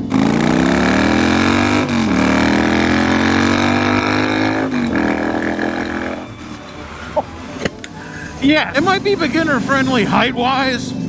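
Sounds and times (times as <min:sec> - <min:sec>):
motorcycle engine accelerating hard: 0:00.0 - 0:11.0.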